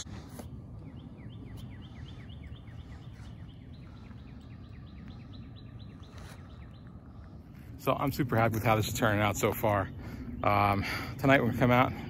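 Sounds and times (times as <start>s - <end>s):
low background rumble: 0.0s - 12.0s
songbird chirping: 0.0s - 12.0s.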